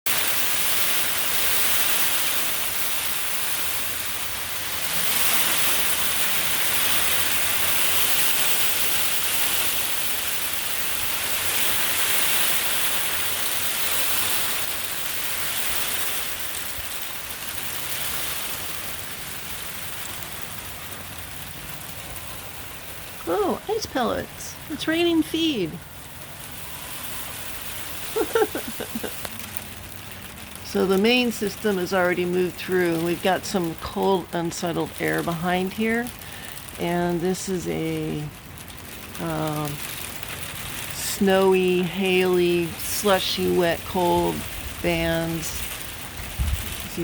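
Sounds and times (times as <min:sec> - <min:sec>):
hard rain and ice pellets: 0:00.0 - 0:47.0.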